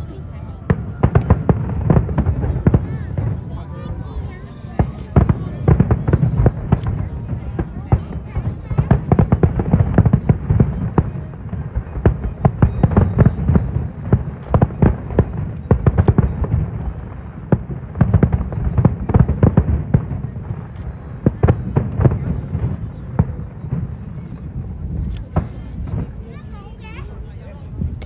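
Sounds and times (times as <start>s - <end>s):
deep fireworks booms: 0.0s - 28.0s
fireworks bursts and crackling: 0.0s - 28.0s.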